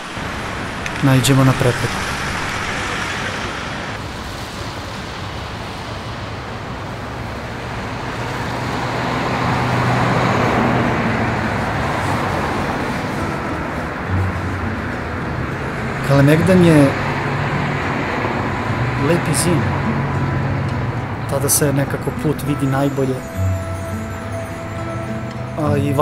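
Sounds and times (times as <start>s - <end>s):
road traffic hum: 0.0s - 26.0s
vehicle passing: 0.0s - 26.0s.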